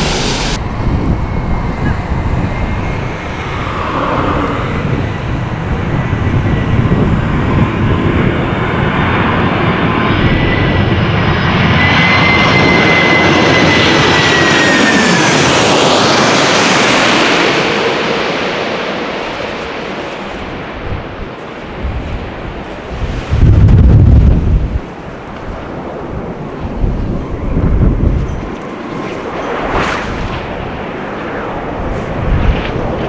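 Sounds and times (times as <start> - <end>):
jet aircraft passing overhead: 0.0 - 33.0.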